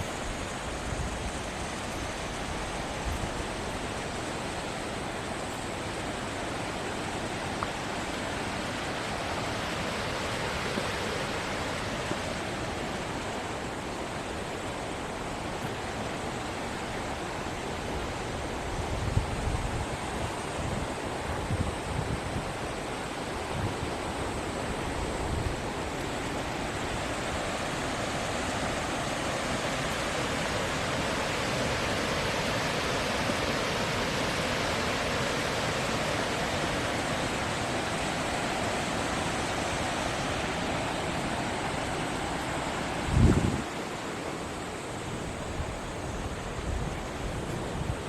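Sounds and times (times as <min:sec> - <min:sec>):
rush of flowing water: 0:00.0 - 0:48.0.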